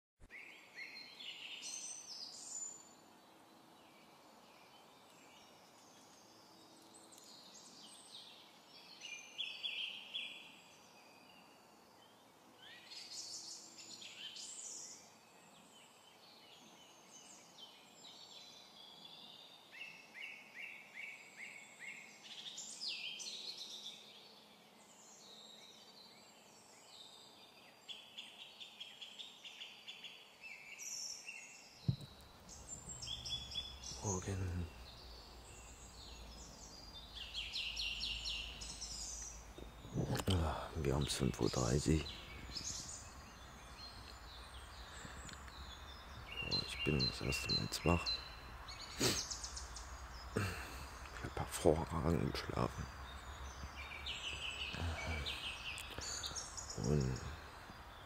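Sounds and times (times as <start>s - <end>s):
faint background noise: 0.2s - 58.0s
songbirds singing: 0.2s - 58.0s.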